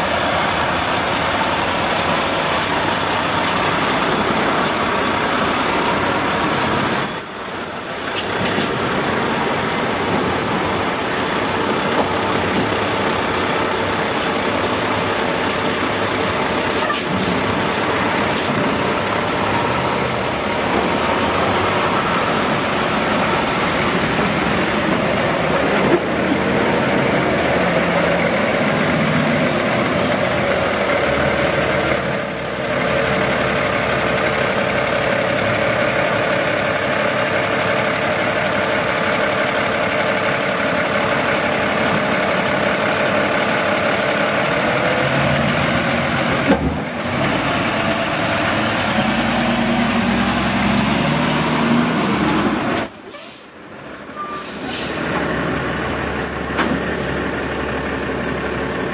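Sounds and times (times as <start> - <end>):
diesel truck engine droning: 0.0 - 58.9.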